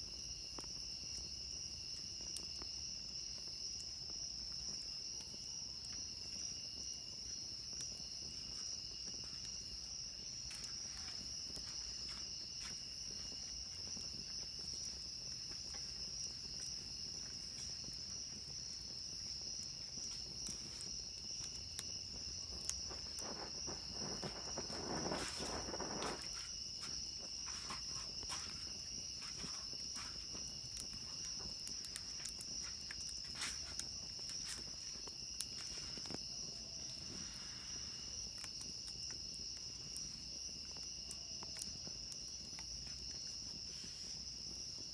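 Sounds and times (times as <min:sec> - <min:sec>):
campfire crackling: 0:00.0 - 0:44.9
crickets chirping: 0:00.0 - 0:44.9.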